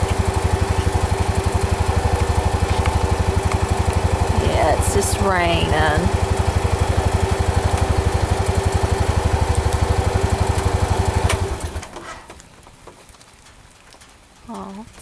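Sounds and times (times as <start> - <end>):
vehicle engine idling: 0.0 - 12.9.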